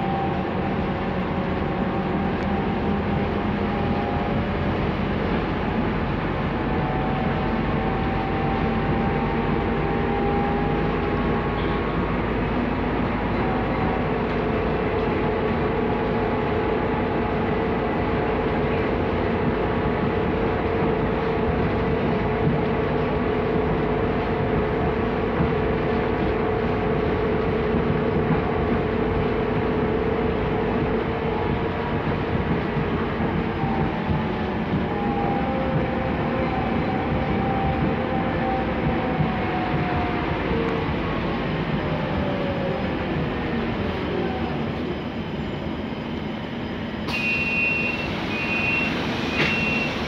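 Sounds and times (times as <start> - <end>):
bus engine drone: 0.0 - 50.0.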